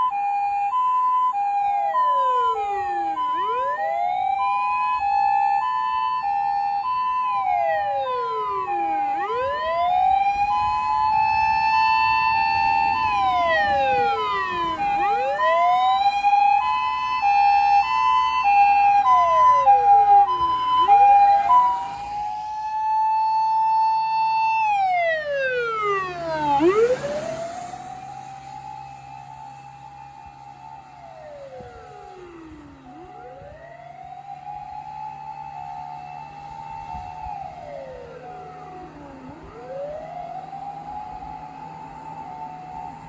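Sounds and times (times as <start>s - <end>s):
two-tone hi-lo siren: 0.0s - 43.0s
wailing siren: 0.0s - 43.0s.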